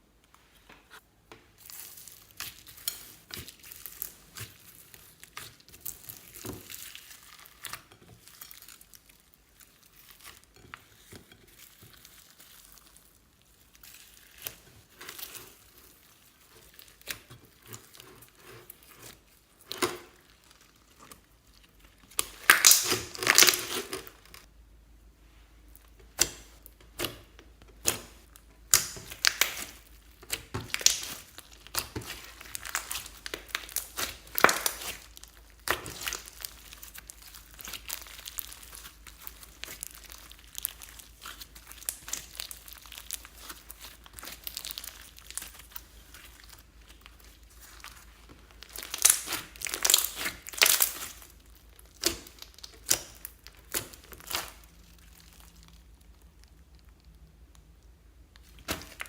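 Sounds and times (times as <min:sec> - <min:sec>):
slime crackling and popping: 0:01.6 - 0:24.5, 0:25.7 - 0:59.0.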